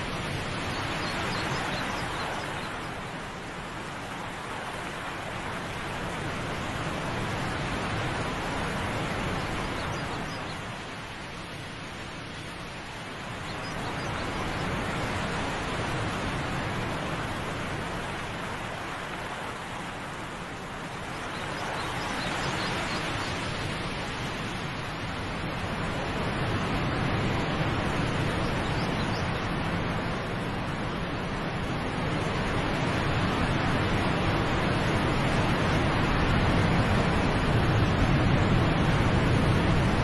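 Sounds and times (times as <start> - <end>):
waterfall rushing water: 0.0 - 40.0.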